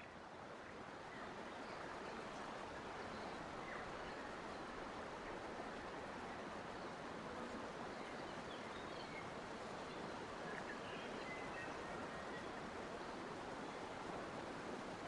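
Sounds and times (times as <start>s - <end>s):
rushing water-like noise: 0.0s - 15.0s.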